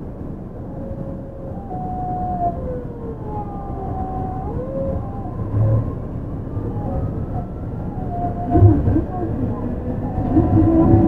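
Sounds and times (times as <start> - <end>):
low running rumble: 0.0 - 11.0
monorail inverter whining: 0.0 - 11.0.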